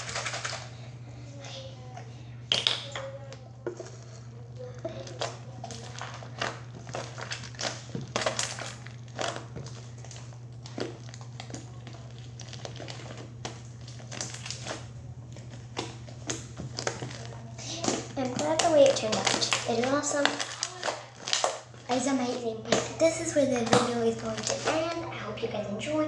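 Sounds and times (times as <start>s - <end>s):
steady low hum: 0.0s - 26.0s
slime squishing and crackling: 2.5s - 25.2s.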